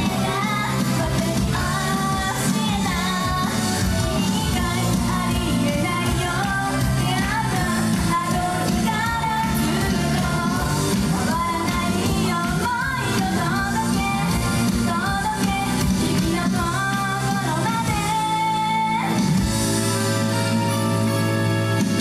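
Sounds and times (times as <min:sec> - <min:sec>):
band playing pop music: 0:00.0 - 0:22.0.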